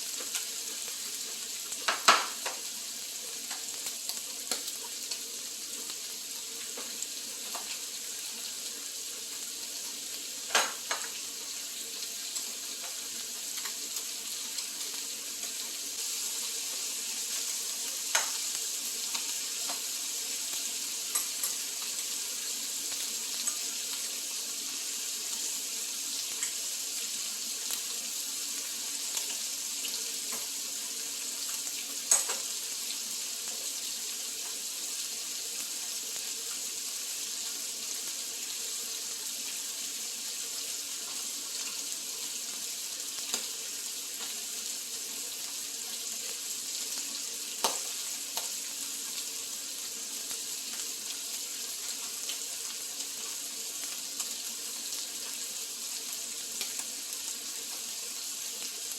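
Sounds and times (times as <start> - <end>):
meat sizzling in a pan: 0.0 - 58.9.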